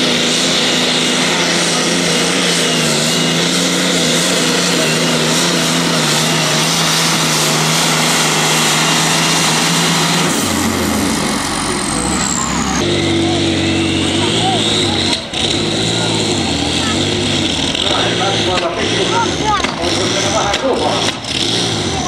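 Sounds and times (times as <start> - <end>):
tractor engine droning under load: 0.0 - 22.0.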